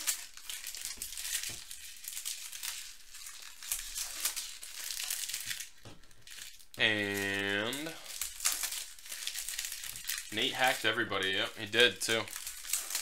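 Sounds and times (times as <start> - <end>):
wrappers crinkling and tearing: 0.0 - 13.0.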